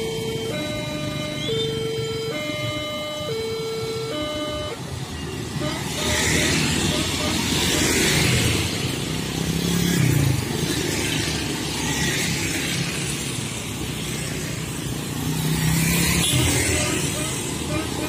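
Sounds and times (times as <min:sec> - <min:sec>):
motorcycles and scooters passing: 0:00.0 - 0:18.0.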